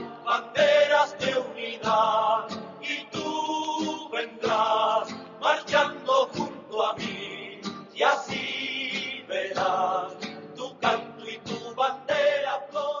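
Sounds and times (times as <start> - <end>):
guitar accompaniment: 0.0 - 13.0
man singing: 0.0 - 13.0.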